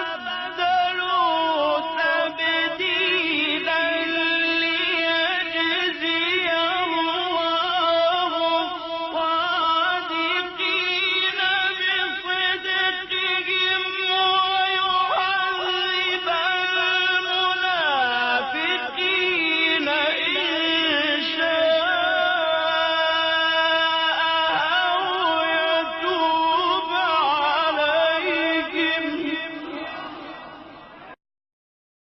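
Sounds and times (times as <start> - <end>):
person reciting melismatically: 0.0 - 31.2.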